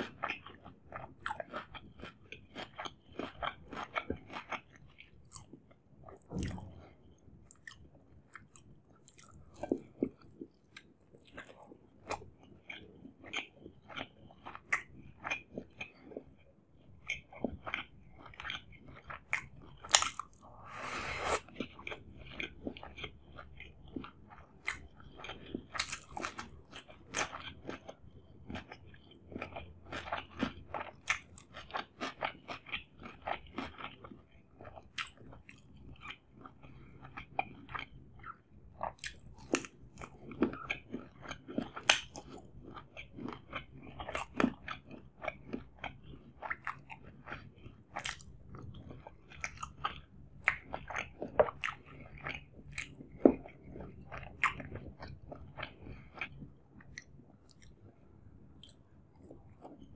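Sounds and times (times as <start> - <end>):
man chewing wetly: 0.0 - 59.9.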